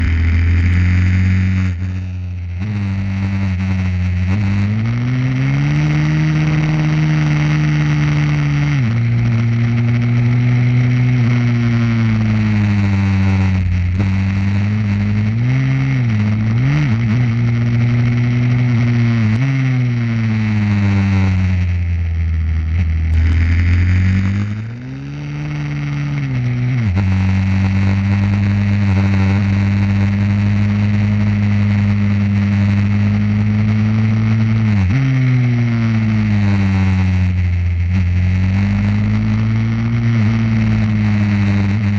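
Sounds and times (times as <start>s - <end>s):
pit bike engine revving: 0.0s - 41.9s.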